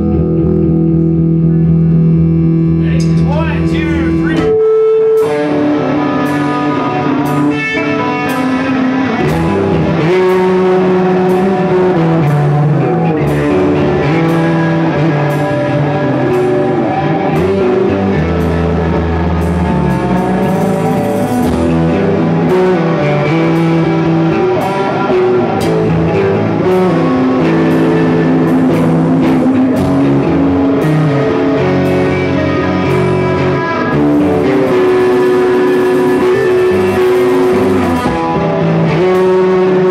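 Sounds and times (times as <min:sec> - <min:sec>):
rock guitars: 0:00.0 - 0:39.9
drum kit beat: 0:02.9 - 0:39.9.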